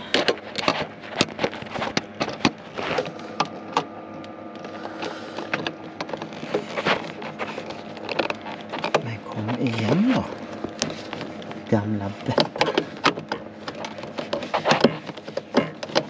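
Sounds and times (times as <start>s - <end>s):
stiff cables being handled: 0.0s - 16.0s.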